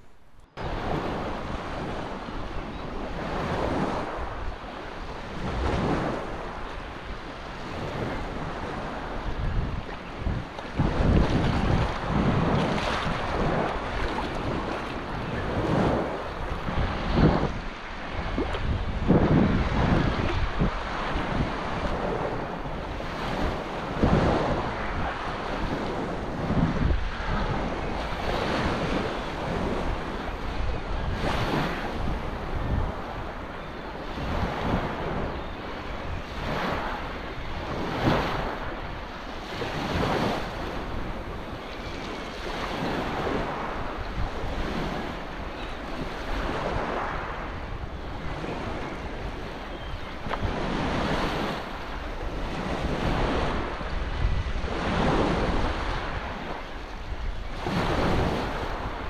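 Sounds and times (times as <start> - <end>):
wind rumbling on microphone: 0.0 - 59.0
small waves washing on sand: 0.6 - 59.0.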